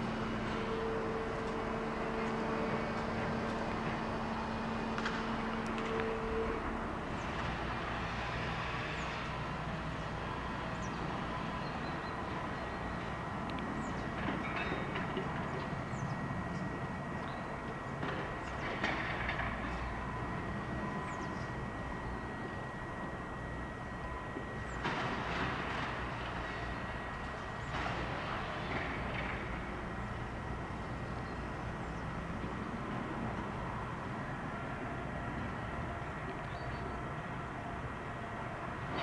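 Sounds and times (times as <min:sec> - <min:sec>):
steady hum: 0:00.0 - 0:38.9
train rumbling: 0:00.0 - 0:39.0.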